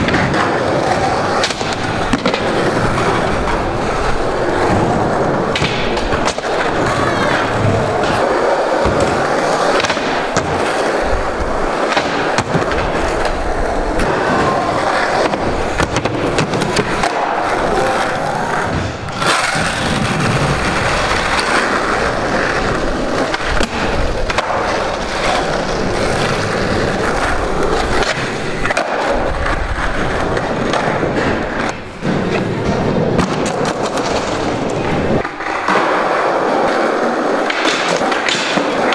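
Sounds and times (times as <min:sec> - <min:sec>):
skateboard clacks and thuds: 0:00.0 - 0:38.9
skateboard wheels rolling on concrete: 0:00.0 - 0:38.9.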